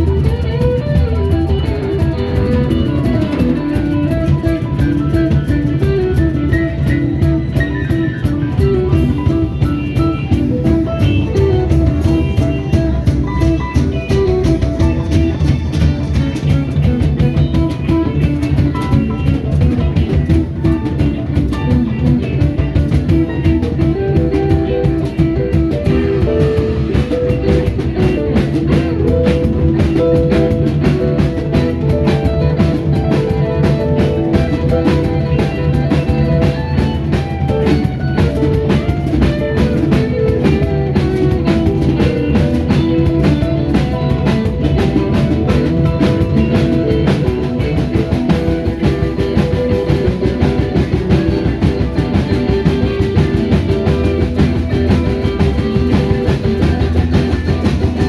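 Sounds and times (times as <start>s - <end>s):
bass guitar: 0.0s - 58.0s
drum kit steady beat: 0.0s - 58.0s
electric guitar lines: 0.0s - 58.0s.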